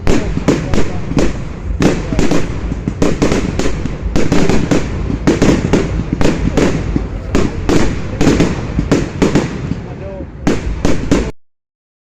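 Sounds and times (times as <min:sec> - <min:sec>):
low rumble: 0:00.0 - 0:10.8
fireworks banging and cracking: 0:00.0 - 0:11.4.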